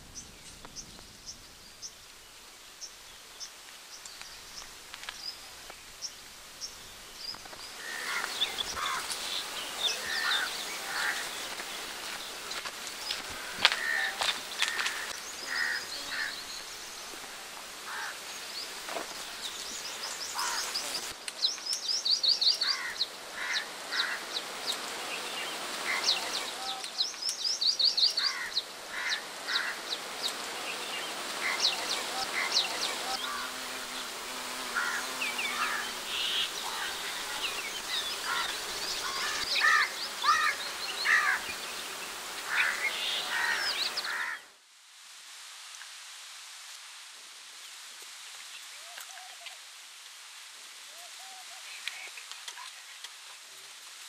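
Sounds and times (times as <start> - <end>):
birds chirping: 0.0 - 44.5
outdoor background noise: 0.0 - 54.0
steady hiss: 0.0 - 54.0.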